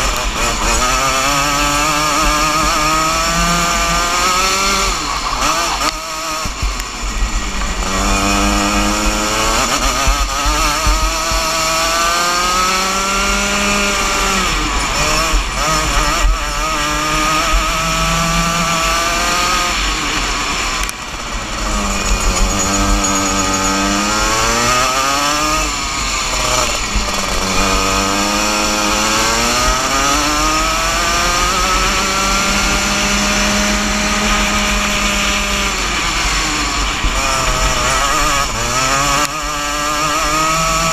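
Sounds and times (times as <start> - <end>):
kart engine at racing speed: 0.0 - 40.9.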